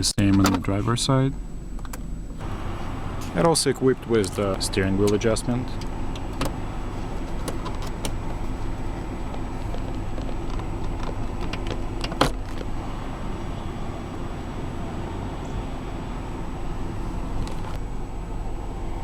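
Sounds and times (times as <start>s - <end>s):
engine idling heard from cabin: 0.2s - 19.0s.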